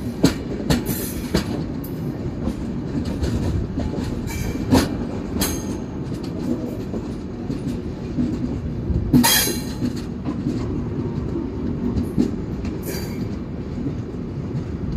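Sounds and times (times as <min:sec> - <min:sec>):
train wheels rumbling on rails: 0:00.0 - 0:14.9.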